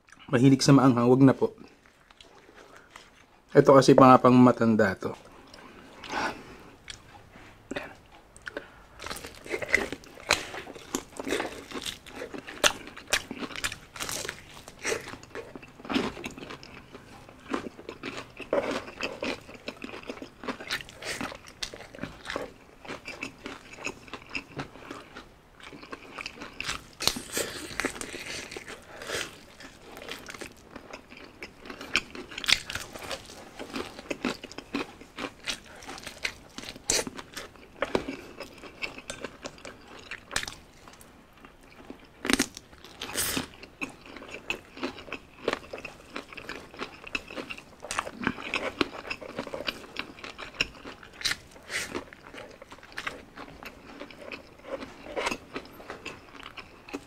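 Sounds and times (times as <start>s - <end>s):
person chewing: 1.6s - 3.5s, 5.2s - 57.0s
crunching fried chicken: 8.6s - 57.0s.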